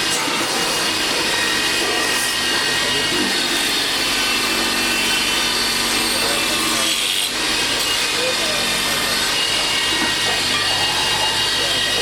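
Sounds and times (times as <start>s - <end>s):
machine grinding metal: 0.0s - 12.0s
machinery hum with high tones: 0.0s - 12.0s.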